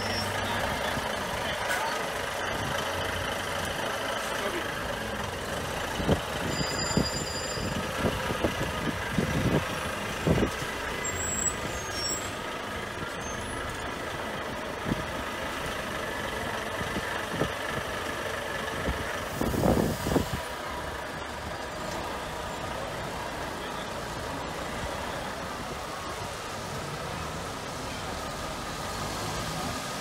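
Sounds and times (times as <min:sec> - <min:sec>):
diesel trucks rolling past: 0:00.0 - 0:30.0.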